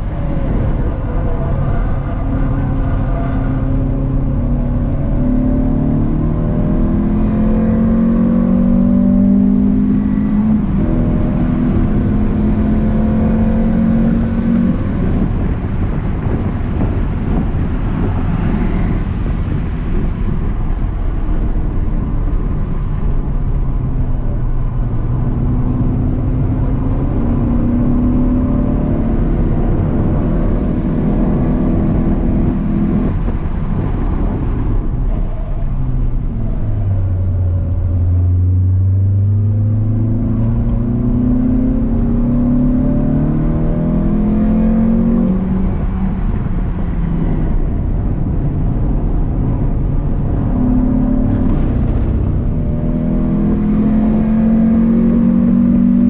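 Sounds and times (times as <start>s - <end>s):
car engine running hard: 0.0s - 56.0s
road and wind noise: 0.0s - 56.0s.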